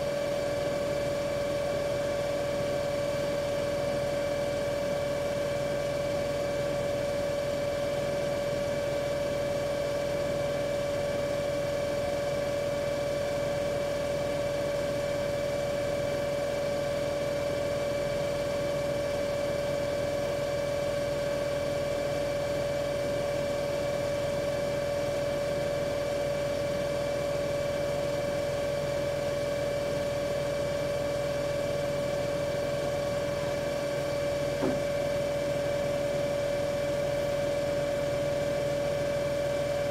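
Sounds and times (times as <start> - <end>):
washing machine spin whine: 0.0 - 39.9.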